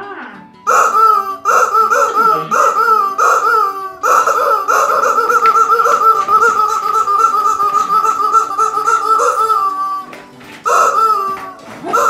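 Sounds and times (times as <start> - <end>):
rubber squeeze chicken squawking: 0.7 - 12.0.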